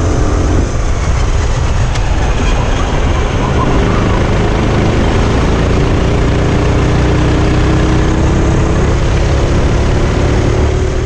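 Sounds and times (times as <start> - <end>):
kart engine running under throttle: 0.0 - 11.0
steady rush of noise: 0.0 - 11.0.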